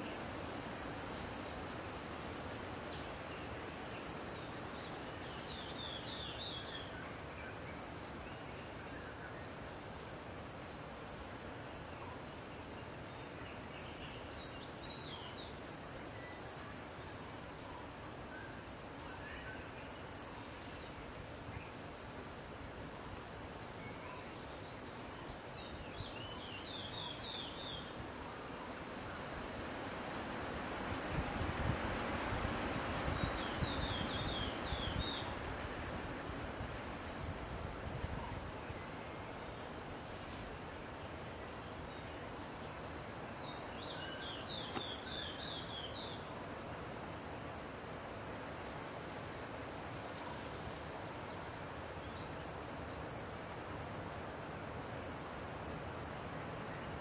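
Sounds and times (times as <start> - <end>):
high-pitched insect chorus: 0.0 - 57.0
insect chirps: 0.0 - 57.0.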